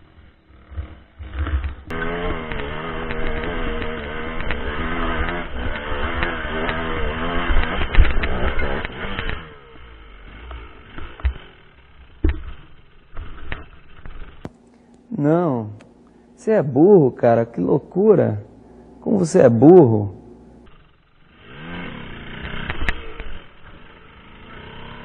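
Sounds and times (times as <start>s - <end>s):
dirt bike engine revving: 0.0s - 14.6s, 17.6s - 25.0s.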